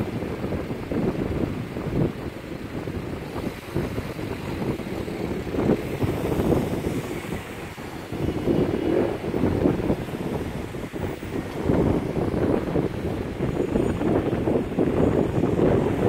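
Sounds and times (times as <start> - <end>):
low rumble of traffic: 0.0 - 16.0
wind buffeting microphone: 0.0 - 16.0.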